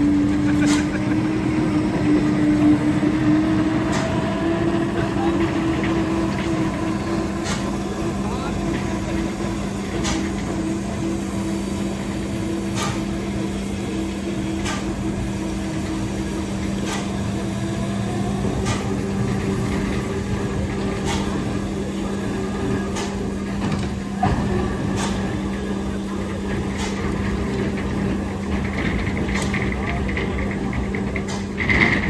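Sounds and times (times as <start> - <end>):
machine humming: 0.0 - 32.0.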